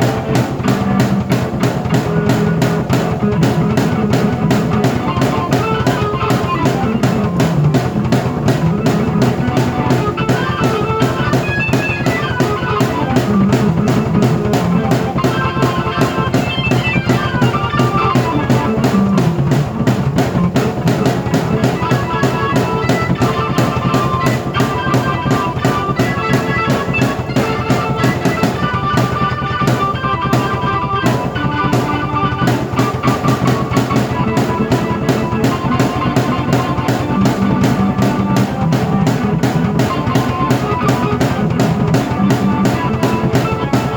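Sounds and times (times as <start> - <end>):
drum beat with bass drum: 0.0 - 43.9
keyboard melody: 0.0 - 43.9.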